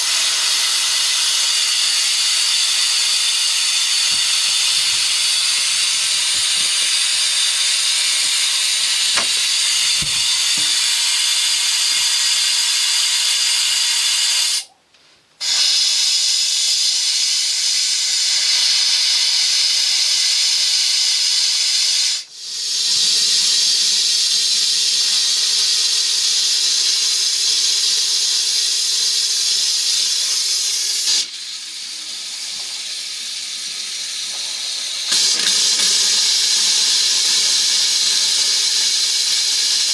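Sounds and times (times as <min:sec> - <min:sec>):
compressed air hissing: 0:00.0 - 0:14.7, 0:15.5 - 0:24.8, 0:25.4 - 0:39.9.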